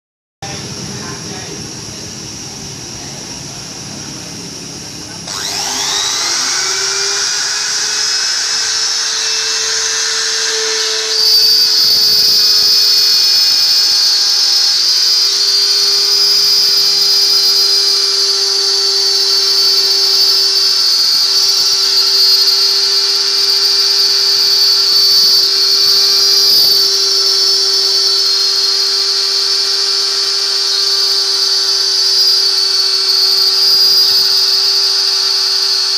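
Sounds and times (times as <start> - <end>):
router spindle whine: 0.4 - 35.9.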